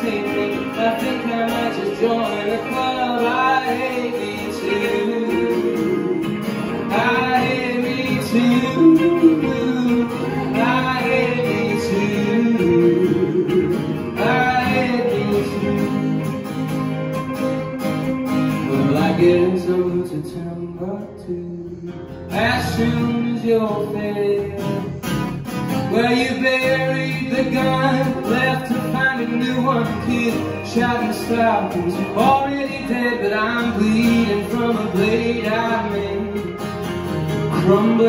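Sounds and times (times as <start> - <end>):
acoustic guitar strumming: 0.0 - 38.0
electric guitar playing: 0.0 - 38.0.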